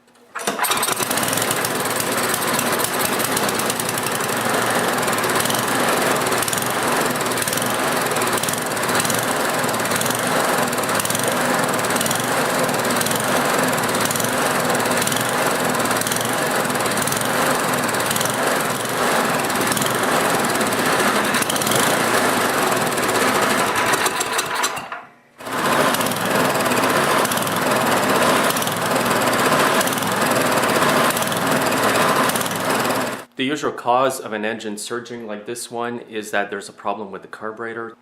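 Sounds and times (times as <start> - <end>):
small engine surging: 0.5 - 24.7, 25.4 - 33.3.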